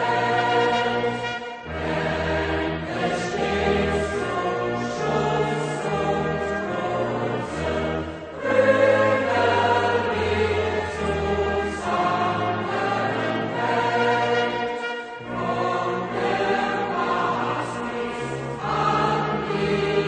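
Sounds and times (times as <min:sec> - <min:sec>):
choir with orchestra: 0:00.0 - 0:20.0.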